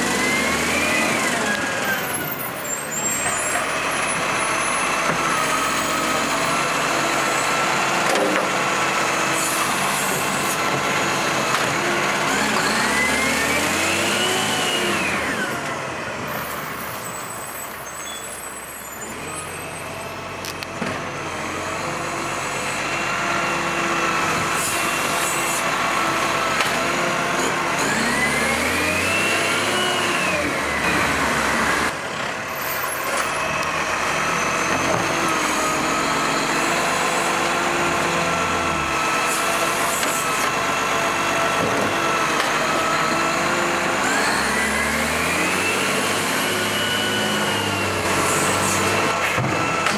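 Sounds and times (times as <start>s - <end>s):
garbage truck engine and hydraulics: 0.0s - 49.9s.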